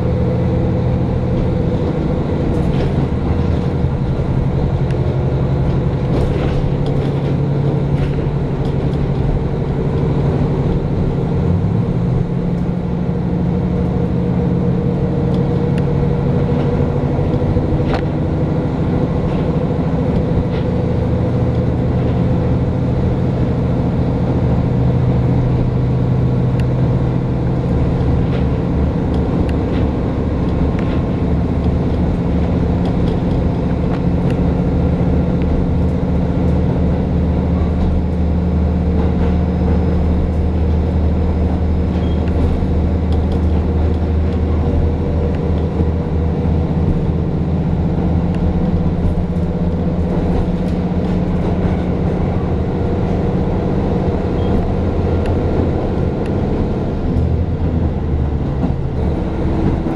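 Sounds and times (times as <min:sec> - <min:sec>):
railcar engine hum: 0:00.0 - 0:59.9
wheels rumbling on rail: 0:00.0 - 0:59.9.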